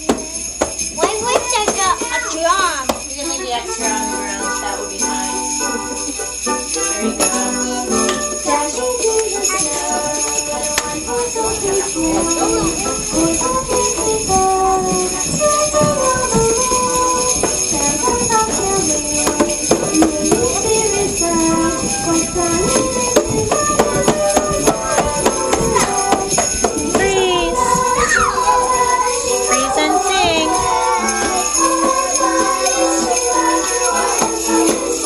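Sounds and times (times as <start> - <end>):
sleigh bells jingling: 0.0 - 35.0.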